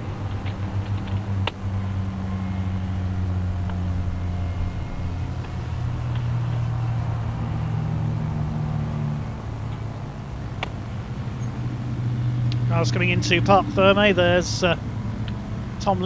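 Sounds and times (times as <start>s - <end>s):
car engines running at low revs: 0.0s - 16.0s.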